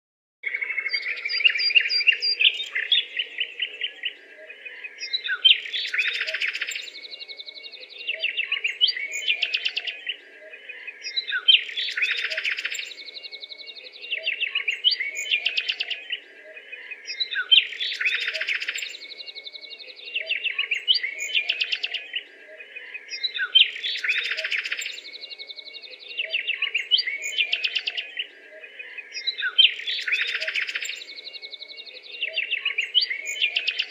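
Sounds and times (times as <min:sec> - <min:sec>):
birds chirping and twittering: 0:00.4 - 0:33.9.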